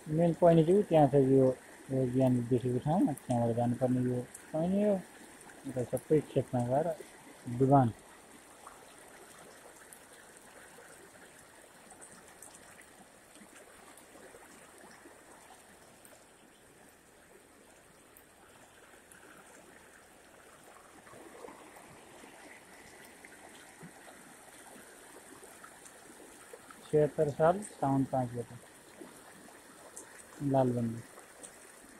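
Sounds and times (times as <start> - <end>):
fast-flowing floodwater rushing: 0.0 - 31.9.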